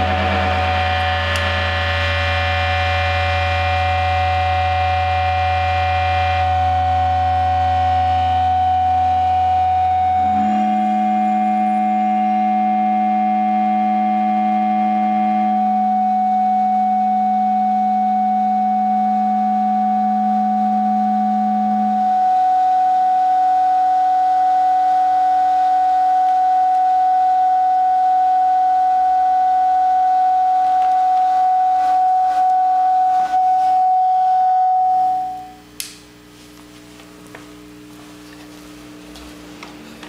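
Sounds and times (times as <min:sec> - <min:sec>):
electric guitar feedback: 0:00.0 - 0:35.8.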